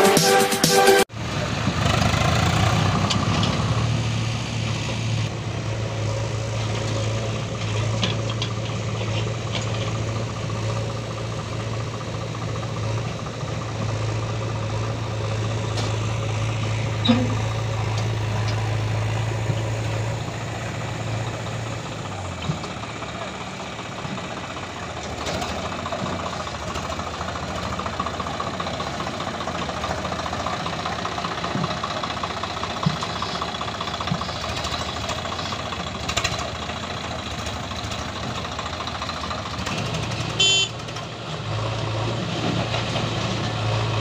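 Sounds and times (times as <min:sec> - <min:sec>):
tractor diesel engine drone: 0:00.0 - 0:44.0.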